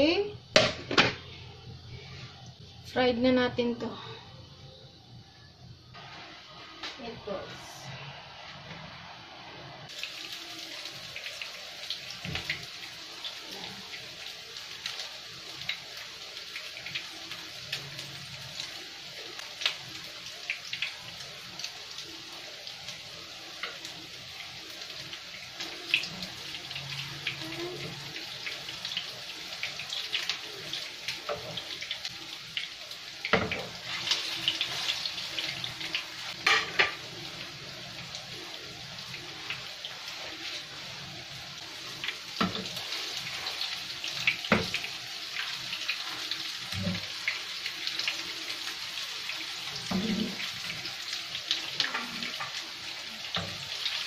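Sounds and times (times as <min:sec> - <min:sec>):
meatballs sizzling in oil: 0:05.9 - 0:54.0.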